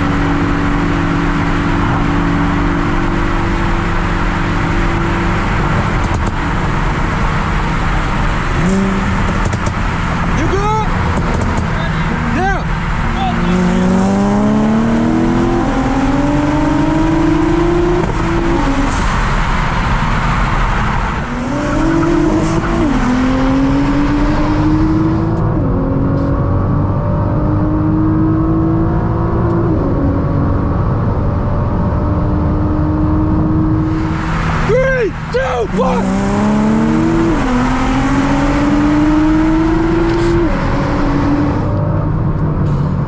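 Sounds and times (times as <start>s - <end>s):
sports car engine accelerating: 0.0s - 43.0s.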